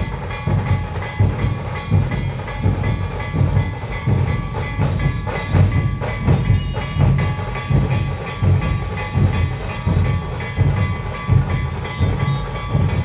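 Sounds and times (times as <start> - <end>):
heavy procession drumming: 0.0 - 13.0
ringing metallic layer: 0.0 - 13.0.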